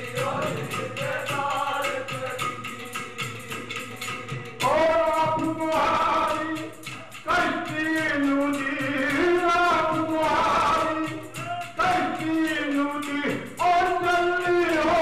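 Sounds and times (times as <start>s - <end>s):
men singing in chorus: 0.0s - 15.0s.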